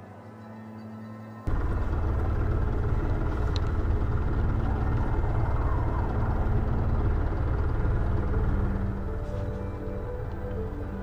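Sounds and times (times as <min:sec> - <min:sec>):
boat engine rumbling: 0:01.5 - 0:11.0.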